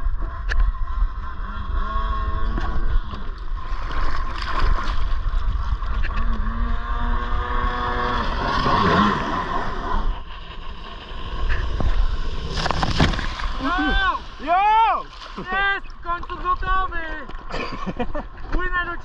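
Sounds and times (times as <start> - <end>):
jet ski engine revving: 0.0 - 18.5
wind and water rumble: 0.0 - 19.0.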